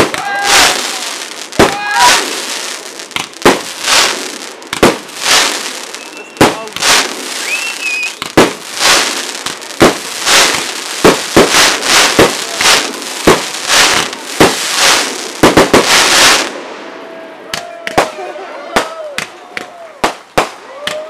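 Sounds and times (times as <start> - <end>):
hissing crackle of fireworks: 0.0 - 17.0, 17.9 - 21.0
fireworks bangs: 0.0 - 21.0.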